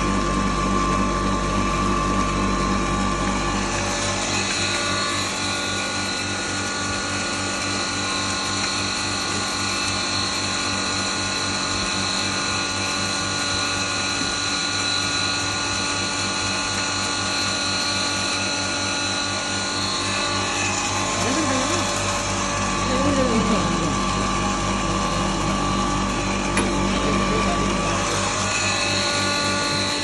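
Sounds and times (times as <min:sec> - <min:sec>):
grain grinder running: 0:00.0 - 0:30.0.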